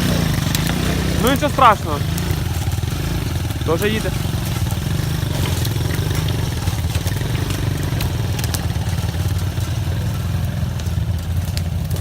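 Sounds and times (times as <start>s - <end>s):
buggy engine running: 0.0s - 12.0s.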